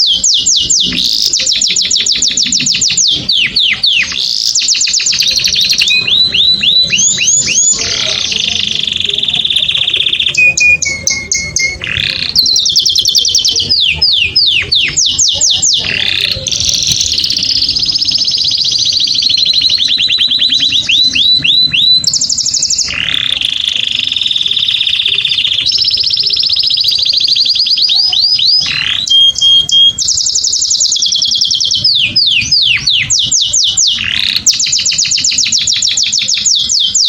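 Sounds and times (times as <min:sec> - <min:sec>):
canary singing: 0:00.0 - 0:37.0.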